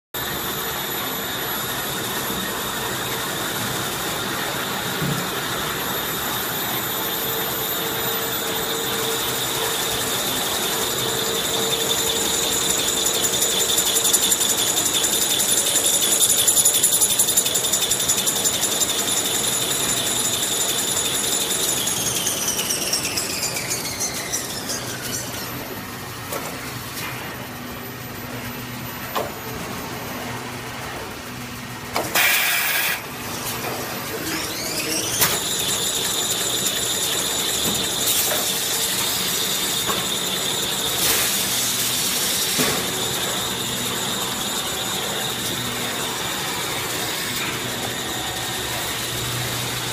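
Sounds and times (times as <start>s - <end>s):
machine whine and clatter: 0.2s - 49.9s.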